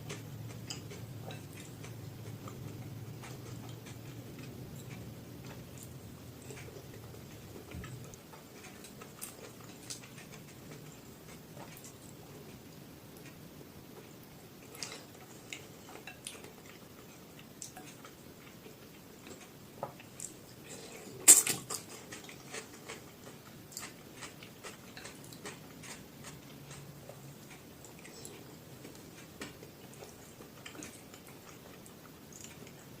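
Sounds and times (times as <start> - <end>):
chewing clicks and smacks: 0.1 - 12.5, 14.6 - 32.9.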